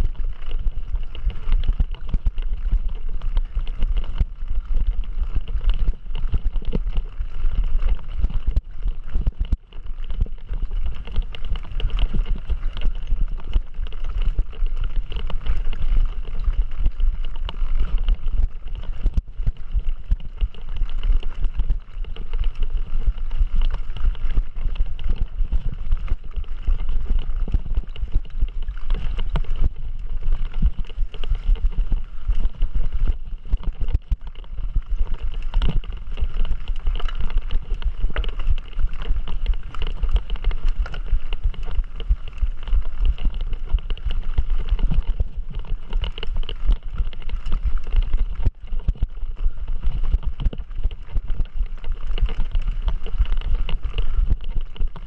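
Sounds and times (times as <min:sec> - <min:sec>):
bike rattles and knocks: 0:00.0 - 0:55.0
low rumble of bike riding: 0:00.0 - 0:55.0.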